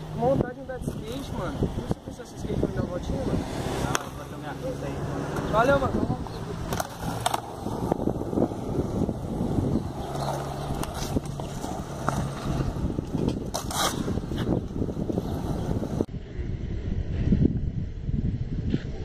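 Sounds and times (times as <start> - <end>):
skateboard wheels rolling on concrete: 0.0 - 16.4.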